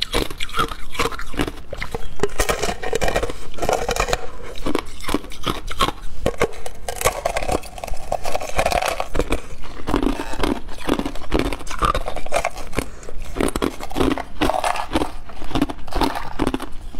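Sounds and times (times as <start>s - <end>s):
crunching ice between teeth: 0.0s - 16.9s.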